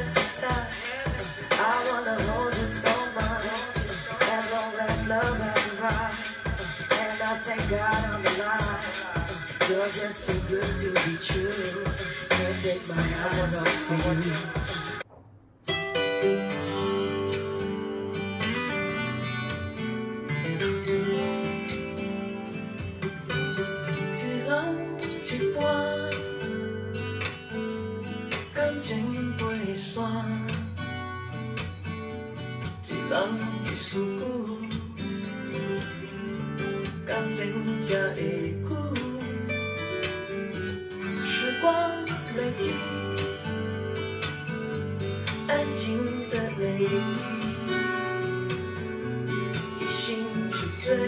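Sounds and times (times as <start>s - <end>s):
acoustic guitar song over loudspeakers: 0.0s - 51.0s.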